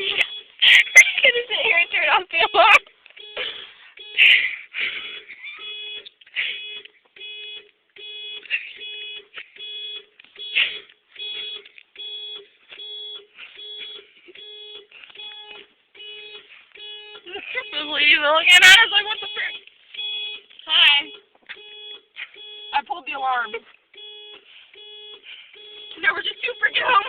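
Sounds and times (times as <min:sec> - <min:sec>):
car alarm pulsing tone: 0:00.0 - 0:27.0.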